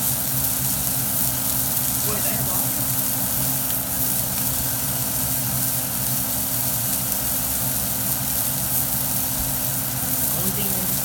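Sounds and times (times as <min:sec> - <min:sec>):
constant hiss: 0:00.0 - 0:11.0.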